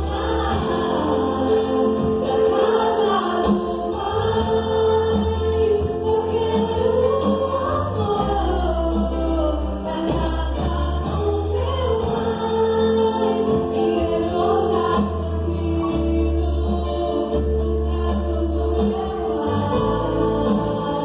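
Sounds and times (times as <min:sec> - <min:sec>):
gospel band playing: 0:00.0 - 0:21.0
voices singing a melody: 0:00.0 - 0:21.0.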